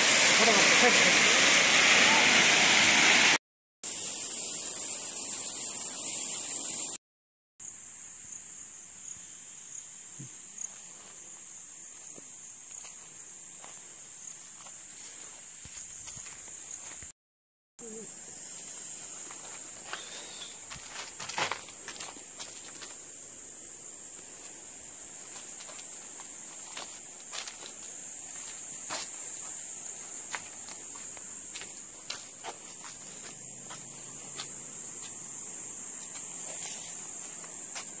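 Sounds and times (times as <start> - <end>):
shrill insect chorus: 3.9 - 7.0, 7.6 - 17.1, 17.8 - 38.0.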